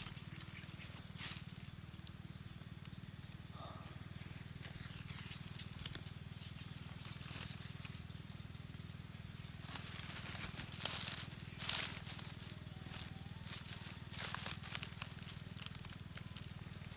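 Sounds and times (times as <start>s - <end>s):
dry leaves rustling and crackling: 0.0s - 16.9s
steady low hum: 0.0s - 16.9s.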